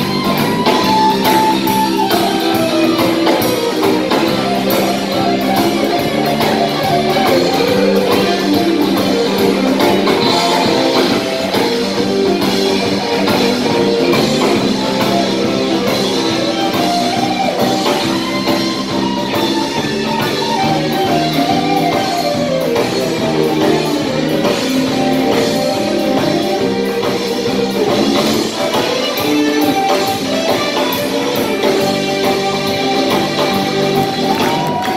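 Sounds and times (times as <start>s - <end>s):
drum kit: 0.0s - 34.9s
electric bass: 0.0s - 34.9s
electric guitars: 0.0s - 34.9s.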